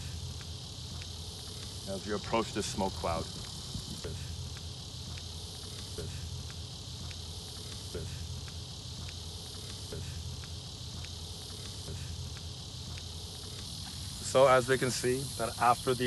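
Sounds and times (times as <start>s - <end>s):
insects singing: 0.0s - 16.0s.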